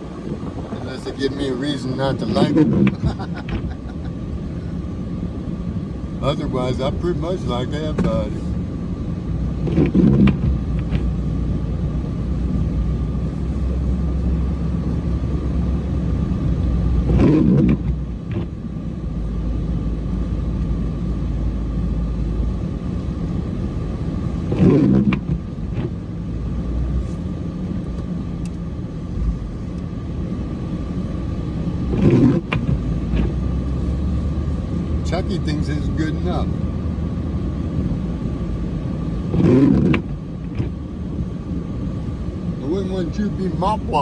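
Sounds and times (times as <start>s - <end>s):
diesel truck engine rumbling: 0.0s - 44.0s.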